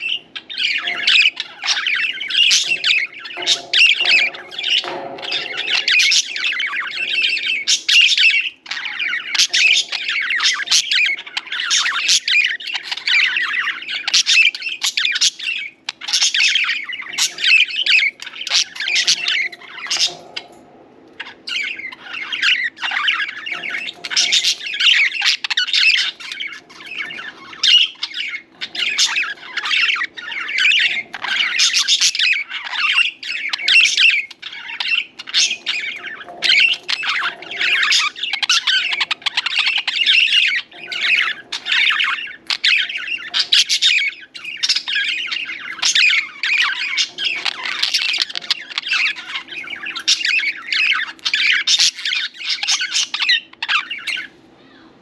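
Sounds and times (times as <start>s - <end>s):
budgerigars chattering: 0.0s - 54.4s.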